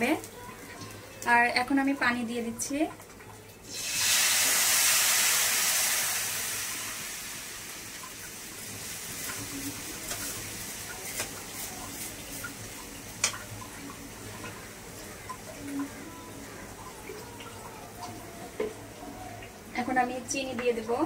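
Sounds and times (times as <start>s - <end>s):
water hissing in hot pan: 3.6s - 21.0s.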